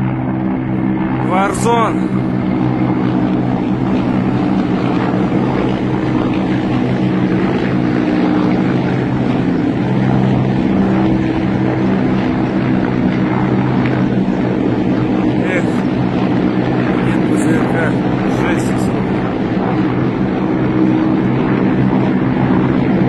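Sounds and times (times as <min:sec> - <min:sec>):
helicopters flying overhead: 0:00.0 - 0:23.0.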